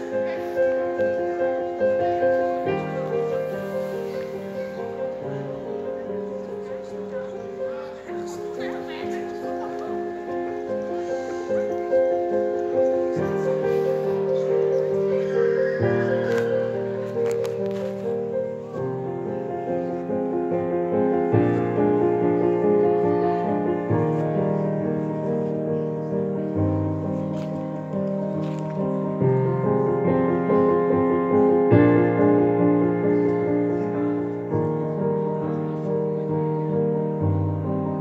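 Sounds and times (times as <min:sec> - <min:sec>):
minimal digital piano music: 0:00.0 - 0:38.0.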